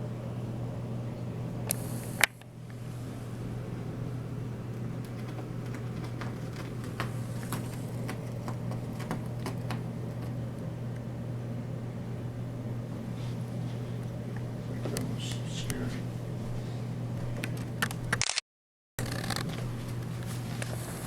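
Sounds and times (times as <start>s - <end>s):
low mechanical hum: 0.0s - 18.4s, 19.0s - 21.0s.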